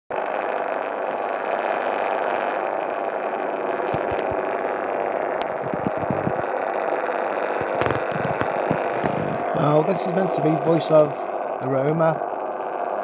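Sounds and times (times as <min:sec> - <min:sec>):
distorted radio noise: 0:00.1 - 0:13.0.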